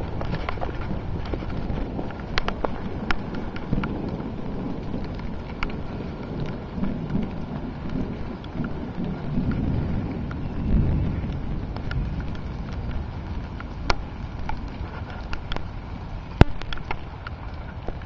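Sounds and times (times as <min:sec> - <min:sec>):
low rumble: 0:00.0 - 0:18.0
rain falling steadily: 0:00.0 - 0:18.0.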